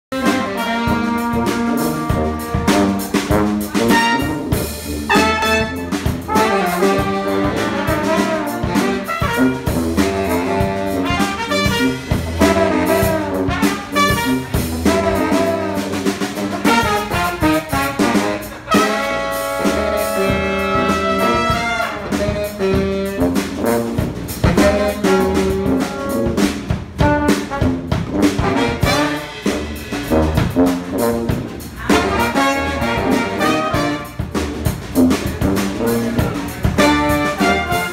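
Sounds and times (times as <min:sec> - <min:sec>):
brass band playing: 0:00.1 - 0:37.9.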